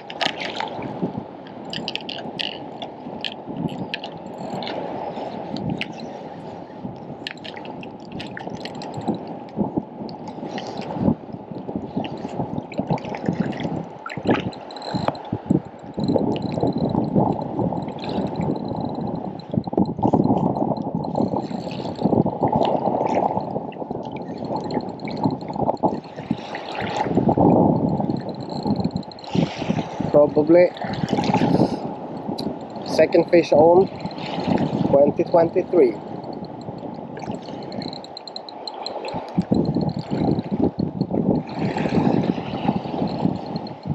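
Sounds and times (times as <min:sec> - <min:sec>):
water sloshing and gurgling: 0:00.0 - 0:43.9.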